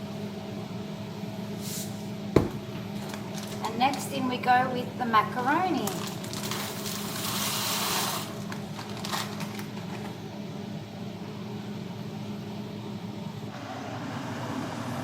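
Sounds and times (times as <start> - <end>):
kitchen appliance humming: 2.2 - 12.2, 12.8 - 15.0.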